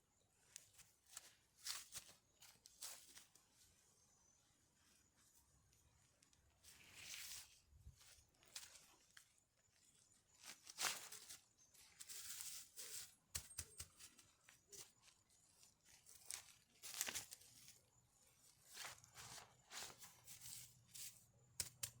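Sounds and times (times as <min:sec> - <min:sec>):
rustling and crinkling: 0:00.4 - 0:04.0, 0:04.7 - 0:22.0.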